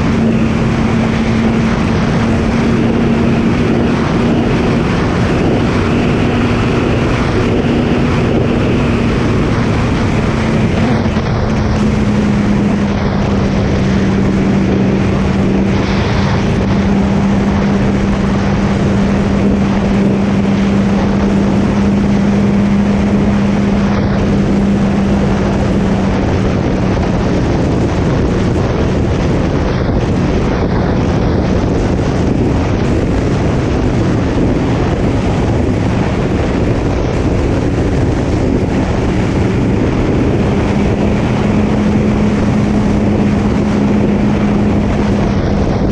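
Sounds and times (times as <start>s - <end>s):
motorcycle engine cruising: 0.0s - 45.9s
wind noise on microphone: 0.0s - 45.9s.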